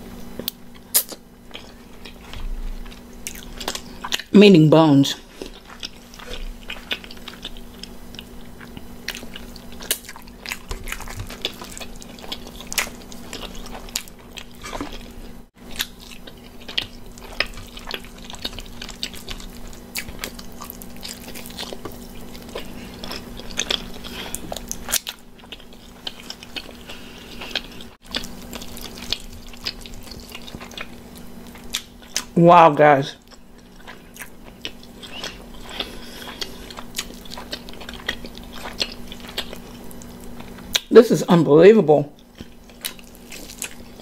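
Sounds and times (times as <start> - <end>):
person chewing and biting: 0.2 - 4.3, 5.2 - 32.4, 33.2 - 40.9, 42.2 - 44.0.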